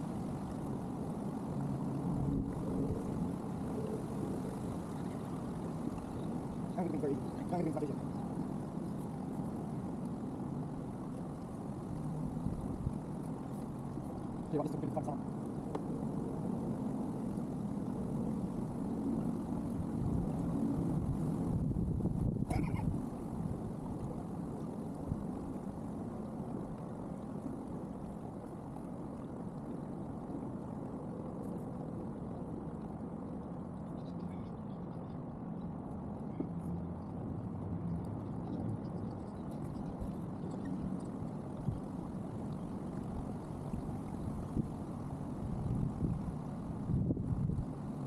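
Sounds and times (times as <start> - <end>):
wind buffeting microphone: 0.0 - 28.4, 30.2 - 48.0.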